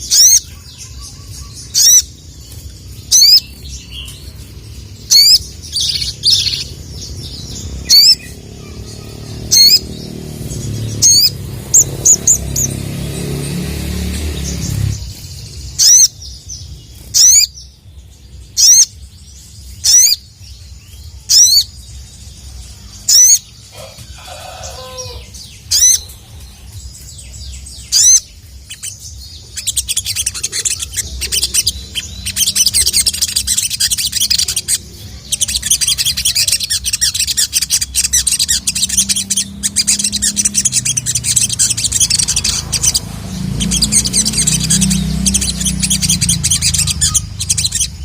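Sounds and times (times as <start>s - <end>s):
bird sharp sweeping calls: 0.0s - 17.8s, 18.5s - 19.1s, 19.8s - 20.3s, 22.8s - 48.0s
bird rapid chattering song: 0.0s - 48.0s.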